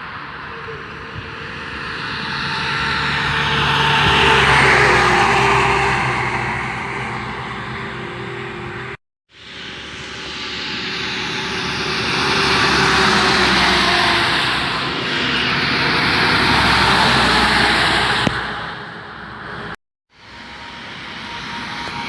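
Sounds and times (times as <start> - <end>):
highway trucks roaring past: 0.0 - 9.0, 10.0 - 22.0.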